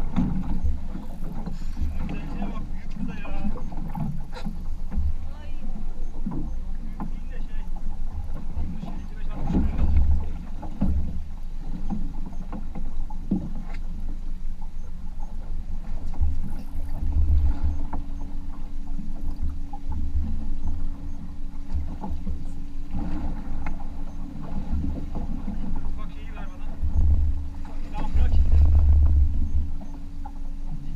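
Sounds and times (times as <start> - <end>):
steady low hum: 0.0 - 30.9
wind and water rumble: 0.0 - 30.9.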